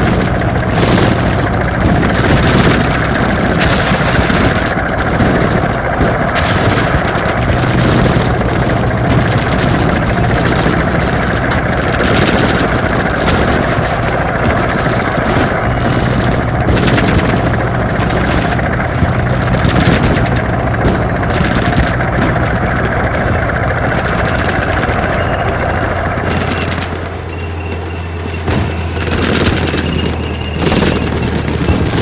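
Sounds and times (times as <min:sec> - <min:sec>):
low military vehicle engine drone: 0:00.0 - 0:32.0
rapid automatic gunfire: 0:00.0 - 0:32.0.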